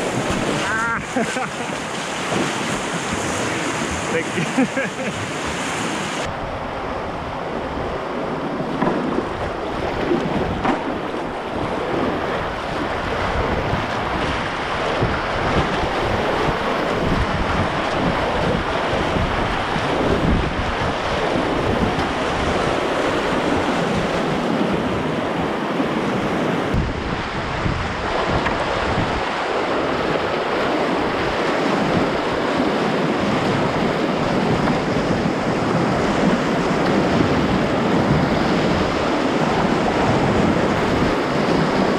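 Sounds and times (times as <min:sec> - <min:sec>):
whitewater rushing and splashing: 0:00.0 - 0:41.9.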